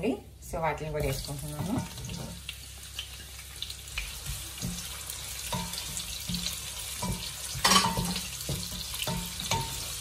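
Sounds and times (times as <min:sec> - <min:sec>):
onions sizzling in hot oil: 0:00.4 - 0:10.0.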